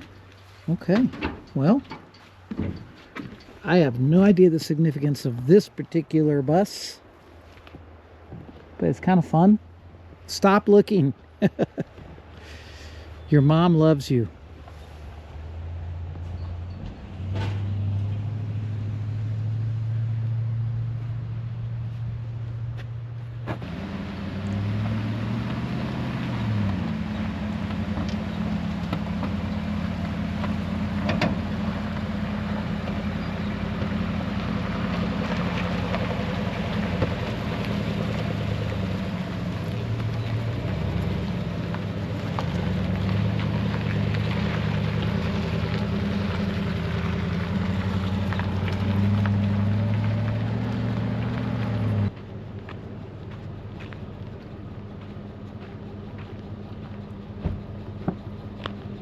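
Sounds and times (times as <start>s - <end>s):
road noise: 0.0s - 59.0s
truck engine driving: 0.0s - 59.0s.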